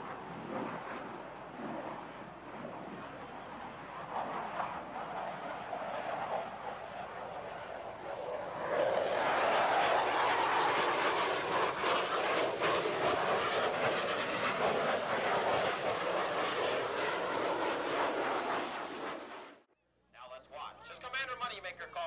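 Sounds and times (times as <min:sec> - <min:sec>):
jet flying past: 0:00.0 - 0:19.7.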